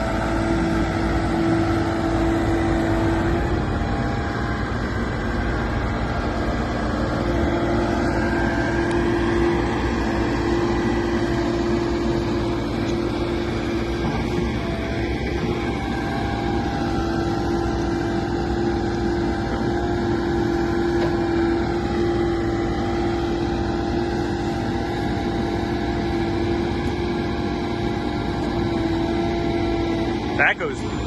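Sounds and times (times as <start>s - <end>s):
backhoe rattling: 0.0s - 30.8s
diesel engine running with whine: 0.0s - 31.0s.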